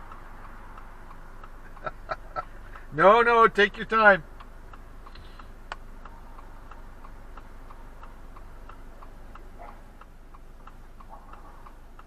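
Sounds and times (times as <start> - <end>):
car indicator ticking: 0.0 - 12.0.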